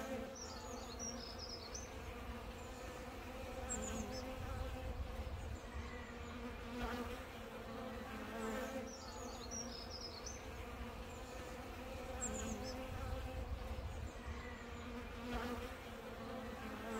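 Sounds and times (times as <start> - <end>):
bees buzzing: 0.0 - 16.9.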